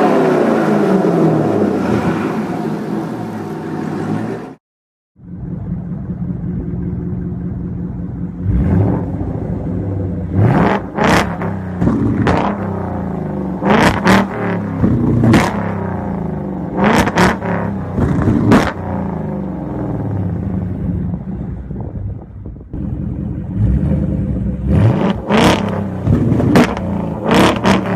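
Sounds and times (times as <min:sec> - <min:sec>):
car engine idling and revving: 0:00.0 - 0:04.6, 0:05.2 - 0:27.9.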